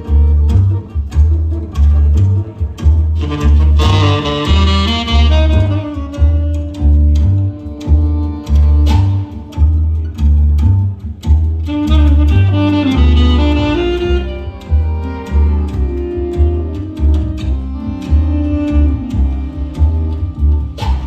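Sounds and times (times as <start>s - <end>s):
instrumental music with deep bass: 0.0s - 21.0s.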